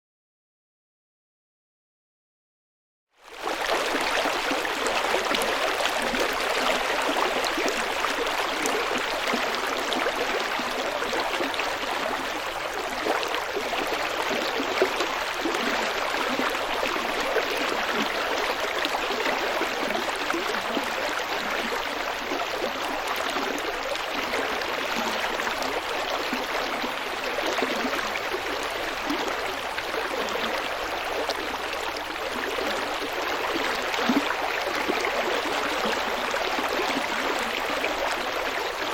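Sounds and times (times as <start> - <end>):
stream babbling over stones: 3.3 - 38.9.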